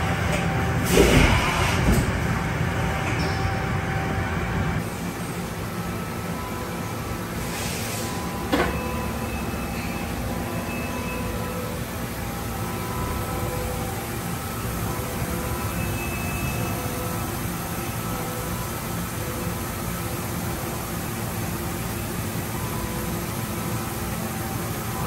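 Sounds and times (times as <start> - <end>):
machining center running: 0.0 - 25.0.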